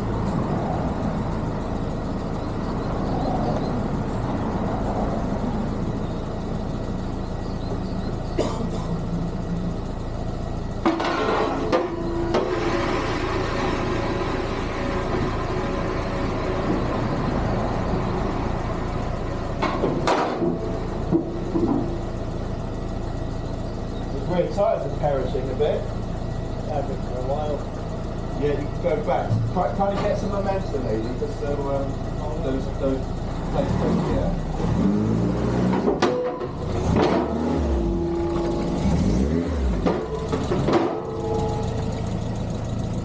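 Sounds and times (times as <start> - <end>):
vehicle engine idling: 0.0 - 43.0.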